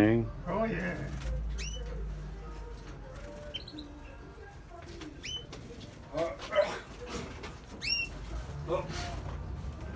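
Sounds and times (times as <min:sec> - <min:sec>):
canaries chirping: 0:00.5 - 0:09.3.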